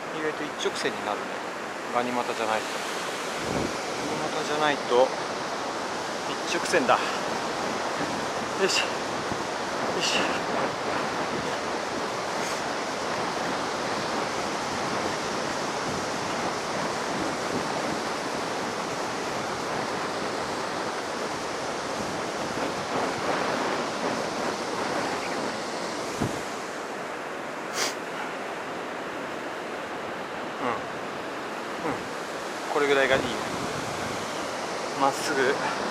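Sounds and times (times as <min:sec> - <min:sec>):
ocean surf breaking on beach: 0:00.0 - 0:35.9.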